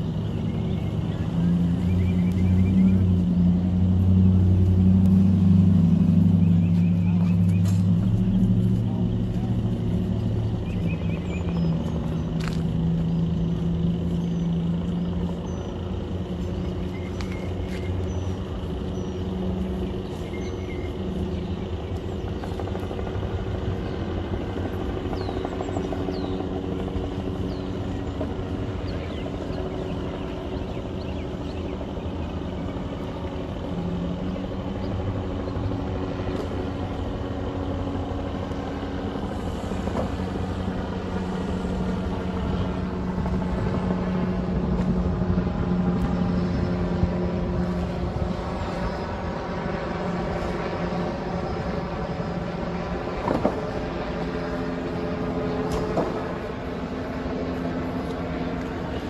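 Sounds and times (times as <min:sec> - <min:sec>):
road noise: 0:00.0 - 0:59.0
vehicle engine drone: 0:00.0 - 0:59.0.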